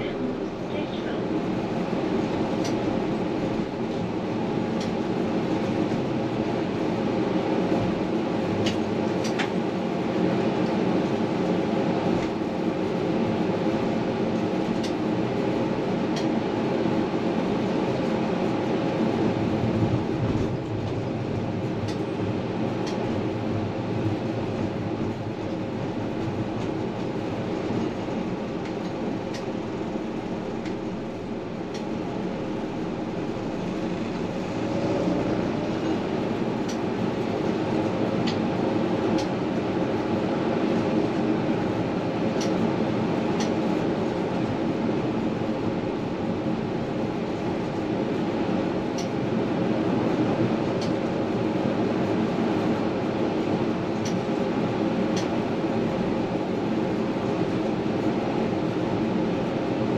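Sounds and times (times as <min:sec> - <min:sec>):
constant hum: 0:00.0 - 0:59.9
tram rolling on rails: 0:00.0 - 0:59.9.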